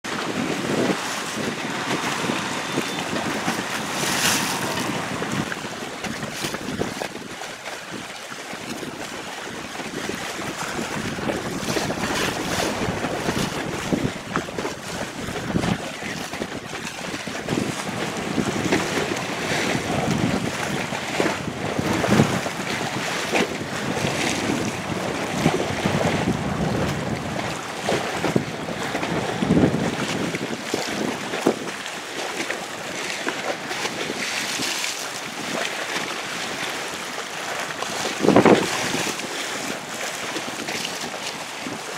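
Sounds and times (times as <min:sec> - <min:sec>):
boat running through rough water: 0:00.0 - 0:41.9
waves slapping against hull: 0:00.0 - 0:41.9
wind buffeting microphone: 0:00.0 - 0:41.9.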